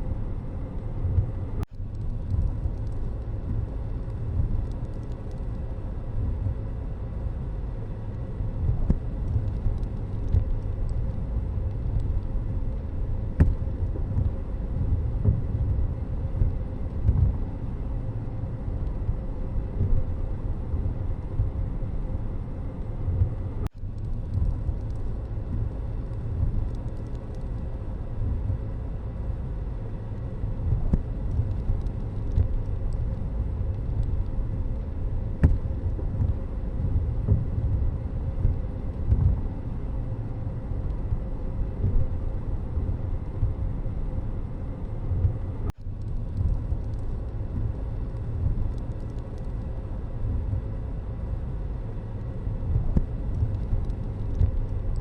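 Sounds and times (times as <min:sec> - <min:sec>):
road vehicle rumble: 0:00.0 - 0:55.0
traffic: 0:00.0 - 0:55.0.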